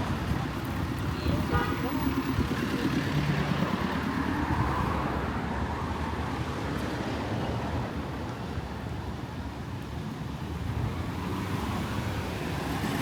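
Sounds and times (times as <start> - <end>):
cars passing on busy street: 0.0 - 13.0.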